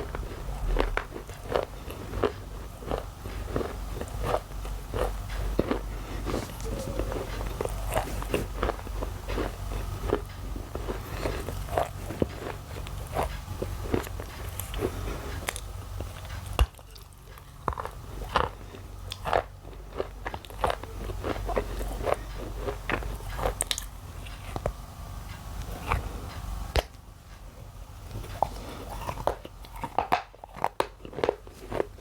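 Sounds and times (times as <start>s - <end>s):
shale being chewed with crunches: 0.0s - 32.0s.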